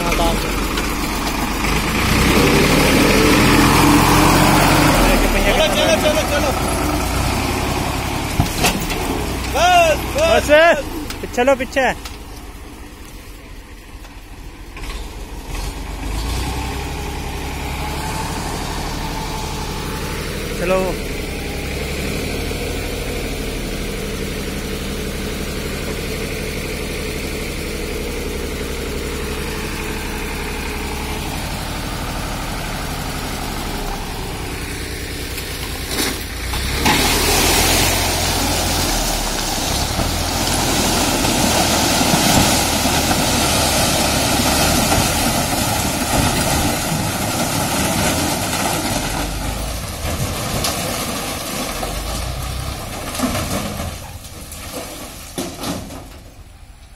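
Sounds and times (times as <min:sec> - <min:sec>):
tractor diesel engine: 0:00.0 - 0:56.9.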